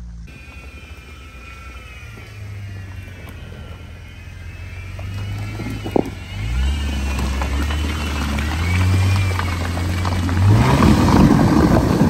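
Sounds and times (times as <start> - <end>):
car engine under load: 0.0 - 12.0.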